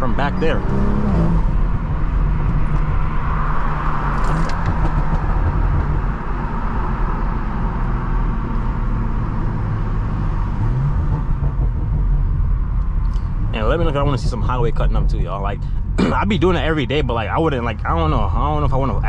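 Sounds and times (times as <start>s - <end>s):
car engine cruising: 0.0s - 19.0s
road noise: 0.0s - 19.0s.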